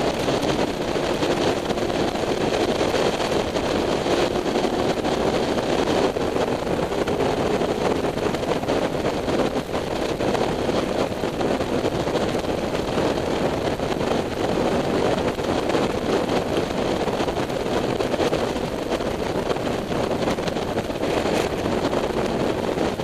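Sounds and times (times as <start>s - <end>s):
motorcycle engine running: 0.0s - 23.0s
wind rushing on microphone: 0.0s - 23.0s.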